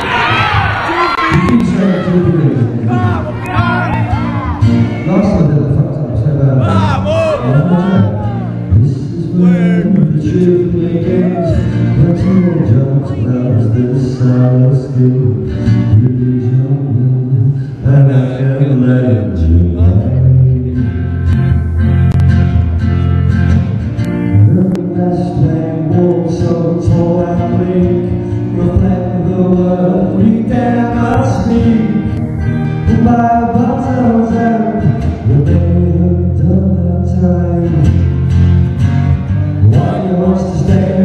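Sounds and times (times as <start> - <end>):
man singing: 0.9 - 21.0, 24.3 - 38.1, 39.6 - 41.0
acoustic guitar strumming: 1.3 - 41.0.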